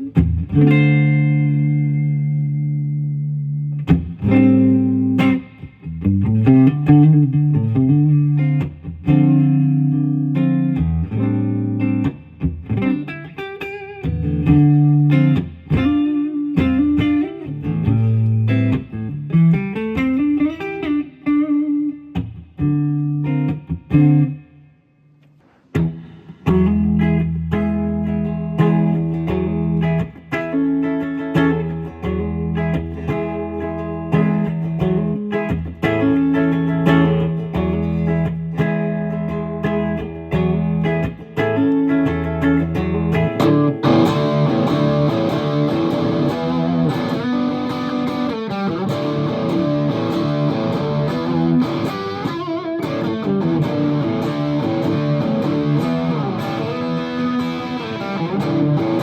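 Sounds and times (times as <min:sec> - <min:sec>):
electric guitar playing: 0:00.0 - 0:59.0.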